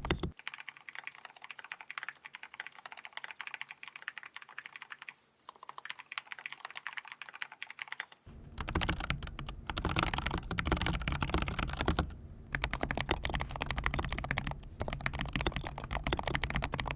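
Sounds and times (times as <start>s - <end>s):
mechanical keyboard typing: 0.0s - 16.9s.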